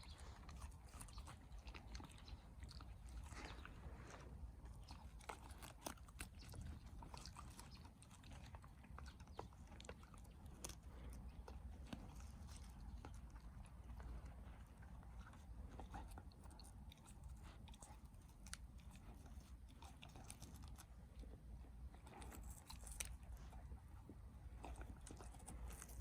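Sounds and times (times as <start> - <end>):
dog chewing grass: 0.0 - 26.0.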